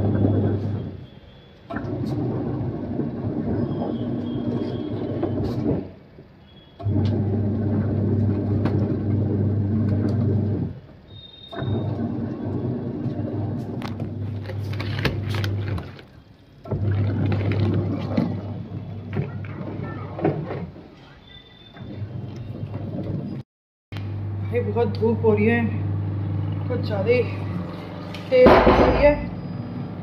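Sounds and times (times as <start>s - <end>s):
washing machine motor humming: 0.0s - 23.4s, 24.0s - 30.0s.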